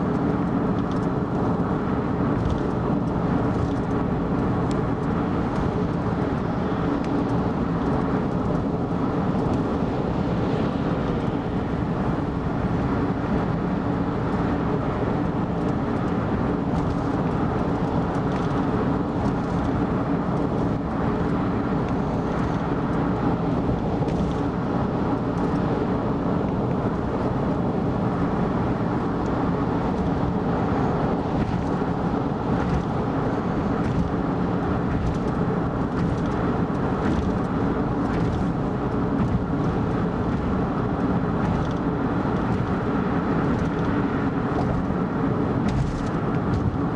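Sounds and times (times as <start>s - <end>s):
car road noise: 0.0s - 46.9s.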